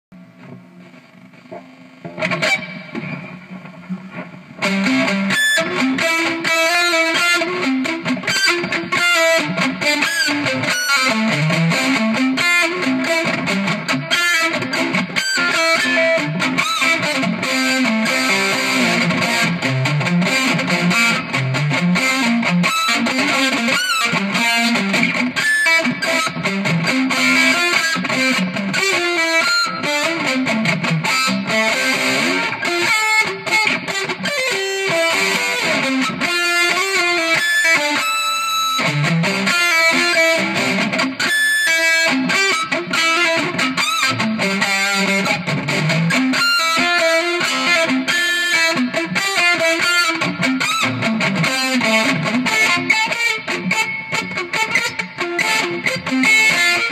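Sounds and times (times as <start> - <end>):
electric guitar playing notes: 0.2 - 56.9.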